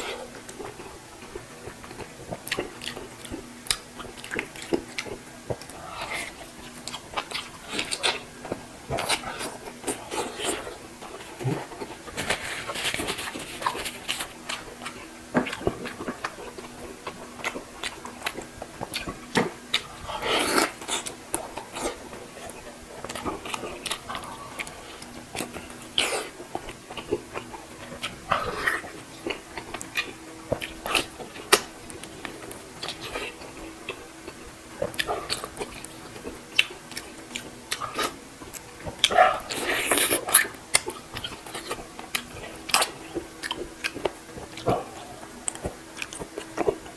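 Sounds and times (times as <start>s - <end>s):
person chewing and slurping: 0.0s - 46.9s.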